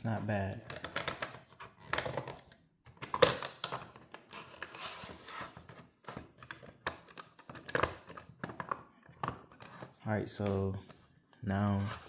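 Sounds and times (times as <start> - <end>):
plastic parts clicking and rubbing: 0.5 - 11.0.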